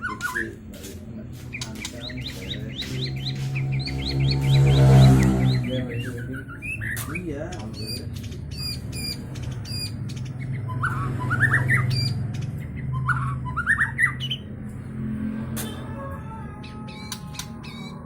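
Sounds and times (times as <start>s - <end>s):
bird calling: 1.5s - 14.4s, 15.6s - 18.0s.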